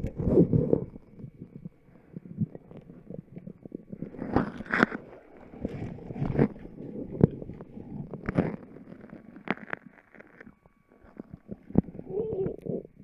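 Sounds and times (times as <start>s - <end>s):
stomach gurgling: 0.0s - 13.0s.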